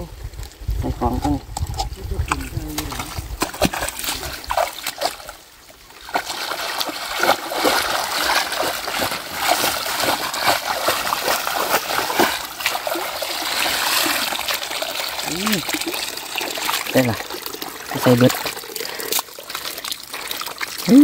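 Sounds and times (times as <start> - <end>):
net splashing through water and mud: 2.7 - 21.0.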